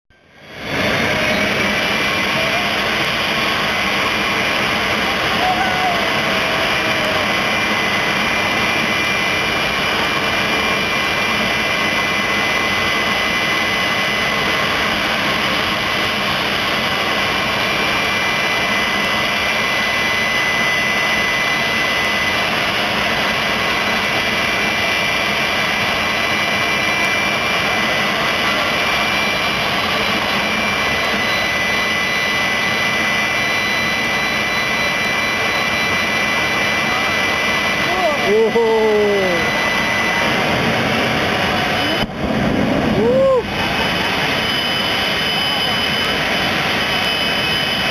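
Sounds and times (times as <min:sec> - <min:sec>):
high-pitched turbine whine: 0:00.1 - 0:47.9
turbine engine rushing: 0:00.1 - 0:47.9.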